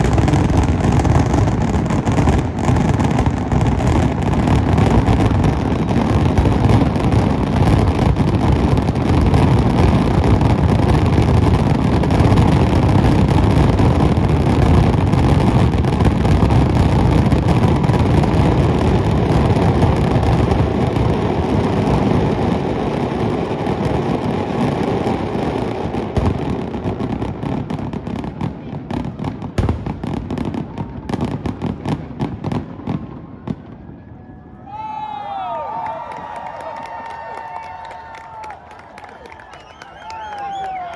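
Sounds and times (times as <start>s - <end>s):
fireworks bursting: 0.0s - 33.8s, 36.1s - 40.9s.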